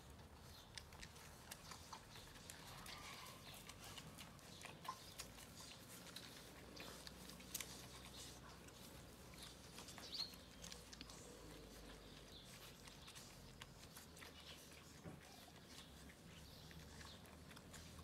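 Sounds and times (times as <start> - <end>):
puppies suckling wet clicks: 0.0 - 18.0.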